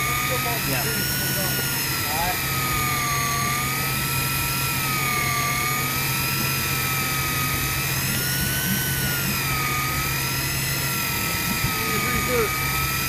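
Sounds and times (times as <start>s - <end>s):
electric fishing reel motor whining: 0.0s - 13.0s
steady low hum: 0.0s - 13.0s.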